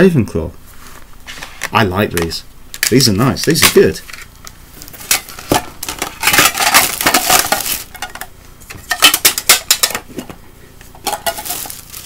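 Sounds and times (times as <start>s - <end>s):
rustling and scraping of items: 0.6s - 2.2s, 2.8s - 12.0s.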